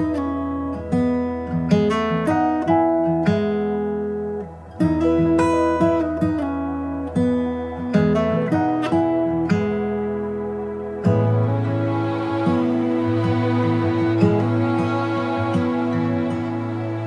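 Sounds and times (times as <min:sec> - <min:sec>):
acoustic guitar plucked notes: 0:00.0 - 0:17.0.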